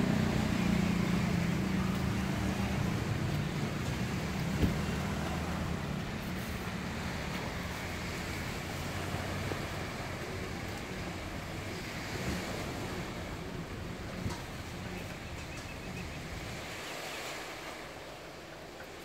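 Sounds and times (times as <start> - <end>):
motor engine humming: 0.0 - 16.8.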